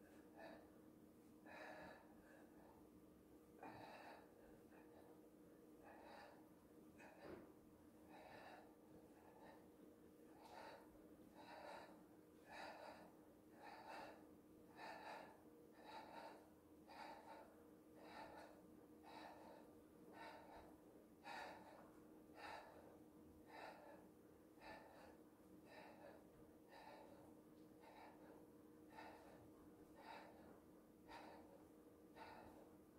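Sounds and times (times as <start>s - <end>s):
faint steady hum: 0.0s - 32.9s
person breathing rhythmically: 0.0s - 32.9s.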